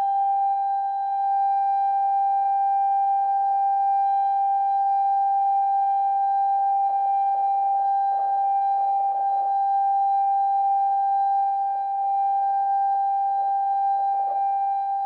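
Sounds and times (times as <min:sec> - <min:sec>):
steady high siren tone: 0:00.0 - 0:15.0.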